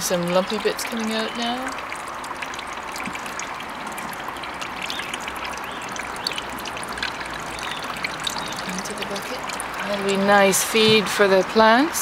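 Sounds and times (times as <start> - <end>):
liquid trickling and splashing: 0.0 - 12.0.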